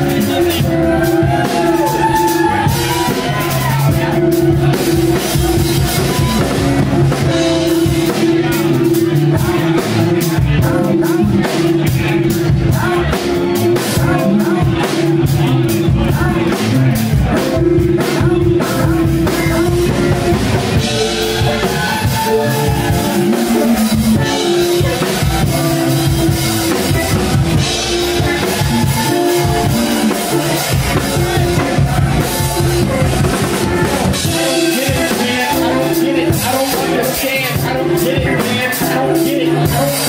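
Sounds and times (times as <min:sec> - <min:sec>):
bass guitar: 0:00.0 - 0:40.0
drum kit: 0:00.0 - 0:40.0
electric guitar: 0:00.0 - 0:40.0.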